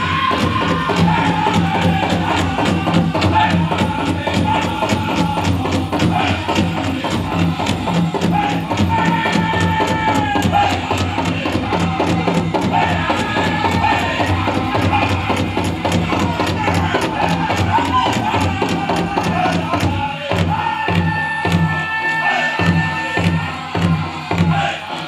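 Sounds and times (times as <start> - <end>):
big drum beat: 0.0 - 21.9
high-pitched group singing: 0.0 - 25.0.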